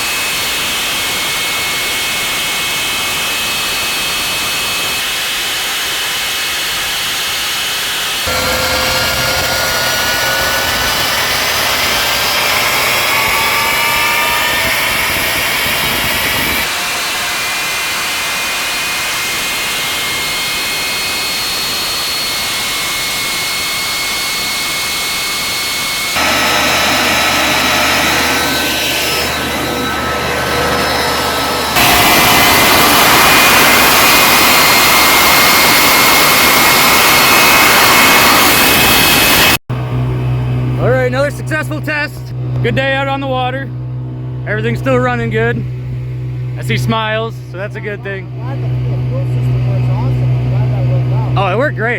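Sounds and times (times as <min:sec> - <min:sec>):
jet boat engine whining: 0:00.0 - 0:51.9.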